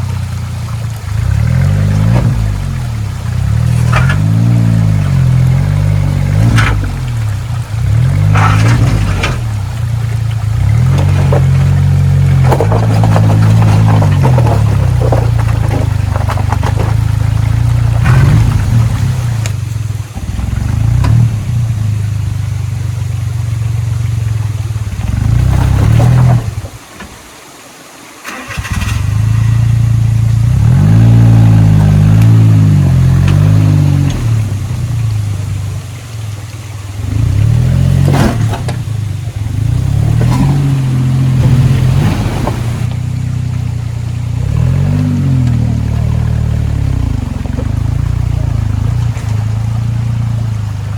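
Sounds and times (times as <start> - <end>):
engine revving under load: 0.0 - 22.2, 28.3 - 50.9.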